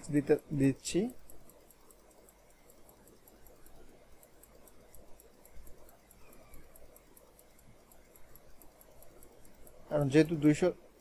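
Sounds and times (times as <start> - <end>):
low steady hum: 0.0 - 11.0
rapid mouse clicks: 0.0 - 11.0.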